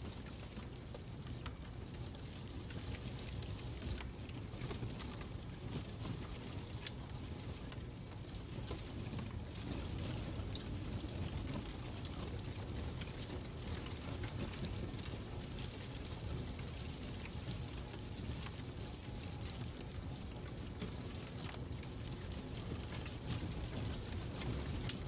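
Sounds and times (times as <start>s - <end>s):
fireplace fire crackling: 0.0s - 25.0s.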